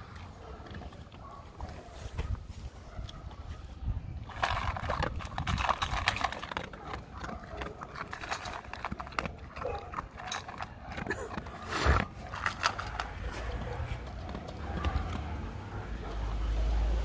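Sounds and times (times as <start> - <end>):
dog crunching dry kibble: 0.0 - 16.9.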